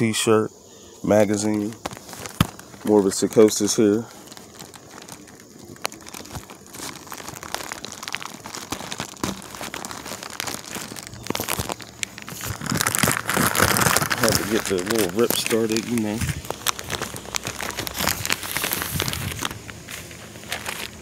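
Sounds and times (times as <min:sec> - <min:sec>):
plastic bag crinkling: 0:01.1 - 0:21.0
plastic bag tearing: 0:01.4 - 0:21.0.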